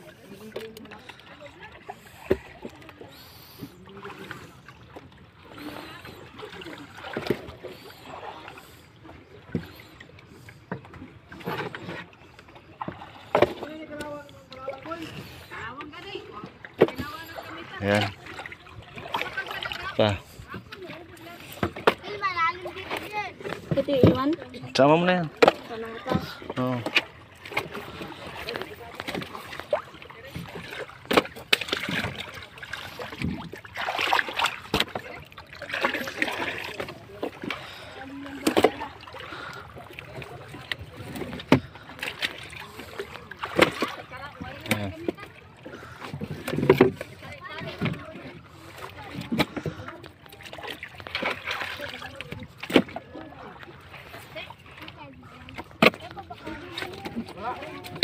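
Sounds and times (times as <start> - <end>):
shallow water splashing: 0.0 - 58.0.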